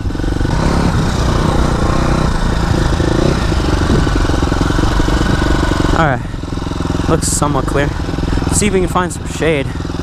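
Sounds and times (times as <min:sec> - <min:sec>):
dirt bike engine: 0:00.0 - 0:10.0.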